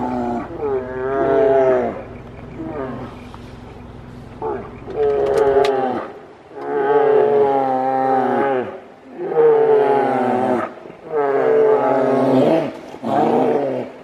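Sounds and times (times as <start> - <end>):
bears roaring: 0.0 - 3.6, 4.3 - 14.0.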